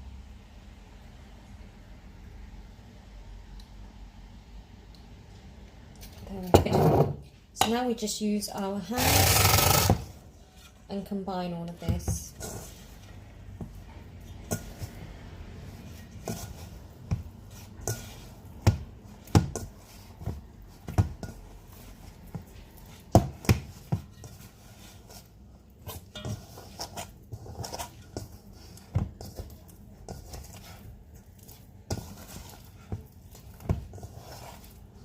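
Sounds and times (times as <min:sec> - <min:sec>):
hands mixing sticky dough: 0:00.6 - 0:35.0.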